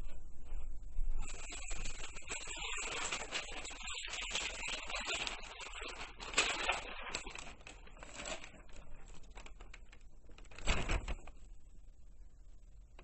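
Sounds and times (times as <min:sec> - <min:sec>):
crinkling and rustling handling: 0:00.0 - 0:11.7.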